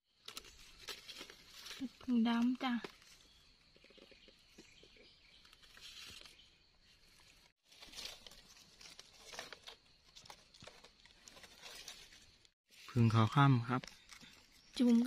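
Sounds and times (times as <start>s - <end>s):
dry leaves rustling and crinkling: 0.2s - 4.1s, 5.4s - 15.0s.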